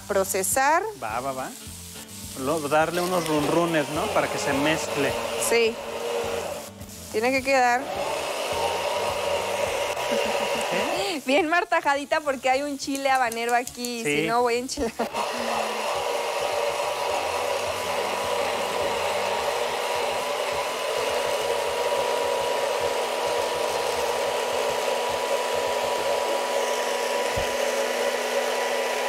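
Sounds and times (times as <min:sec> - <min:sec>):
hand blender running: 0:02.3 - 0:11.7, 0:12.5 - 0:29.0.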